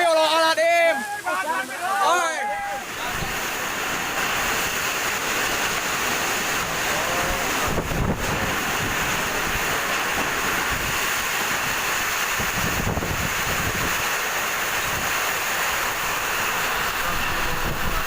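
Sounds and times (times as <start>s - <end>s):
heavy rain: 0.0s - 18.0s
storm wind: 2.8s - 18.0s
wind gusts buffeting microphone: 2.8s - 18.0s.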